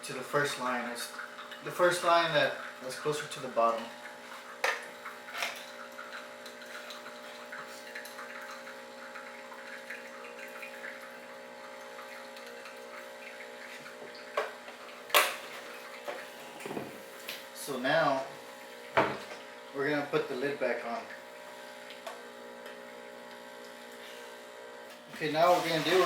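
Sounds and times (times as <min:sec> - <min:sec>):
milk pouring into jug: 0:00.1 - 0:26.0.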